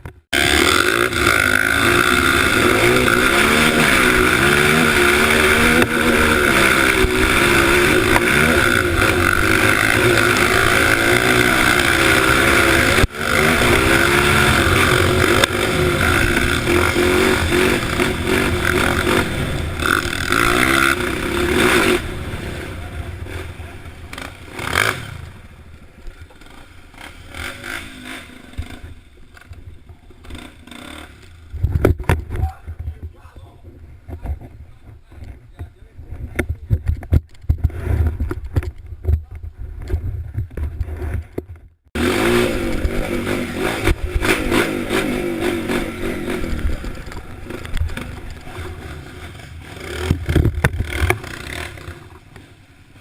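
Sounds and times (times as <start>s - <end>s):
dirt bike engine revving: 0.0s - 32.4s, 41.9s - 53.0s.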